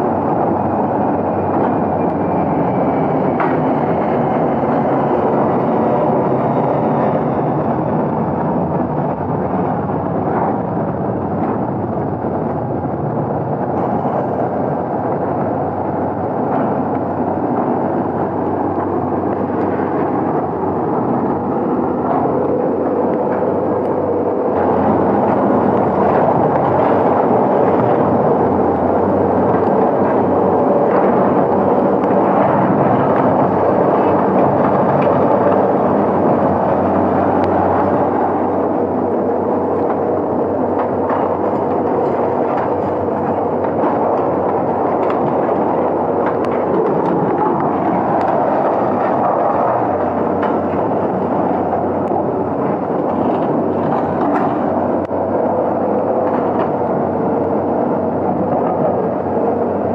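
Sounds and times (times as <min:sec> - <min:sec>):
heavy machinery engine running: 0:00.0 - 0:59.9.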